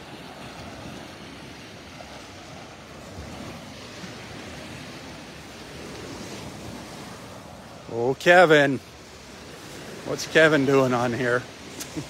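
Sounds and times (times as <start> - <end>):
small waves breaking on sand: 0.0 - 12.0.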